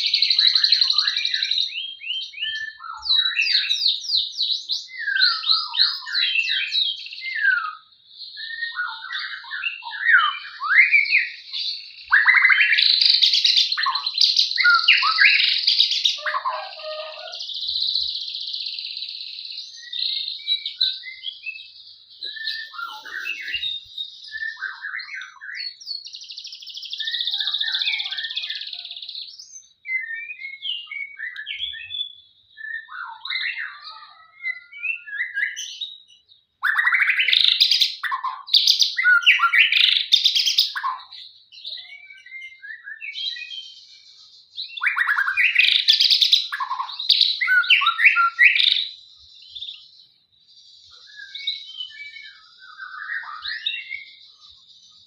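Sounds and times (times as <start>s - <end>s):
songbird singing whistled phrases: 0.0s - 55.0s.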